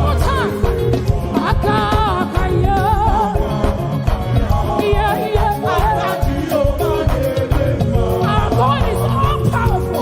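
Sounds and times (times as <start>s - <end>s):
gospel band playing: 0.0s - 10.0s
melismatic singing: 0.0s - 10.0s.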